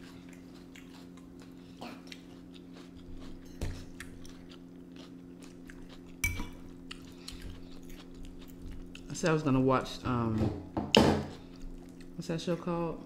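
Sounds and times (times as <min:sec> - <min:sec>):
person chewing food: 0:00.0 - 0:09.4, 0:11.2 - 0:12.7.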